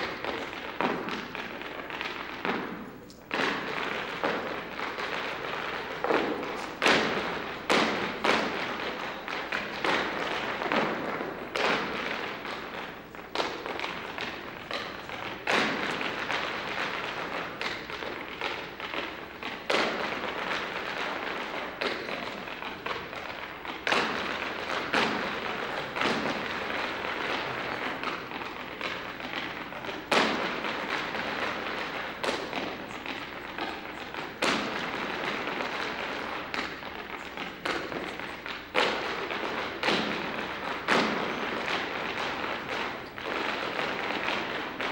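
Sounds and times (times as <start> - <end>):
hard shoes tapping on wood: 0.0 - 44.9
shoes stamping on stage: 0.0 - 44.9.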